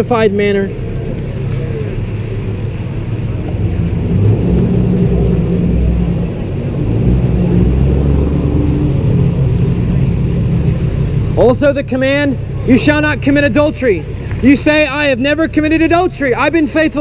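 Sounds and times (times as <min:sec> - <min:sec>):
car engines passing: 0:00.0 - 0:17.0.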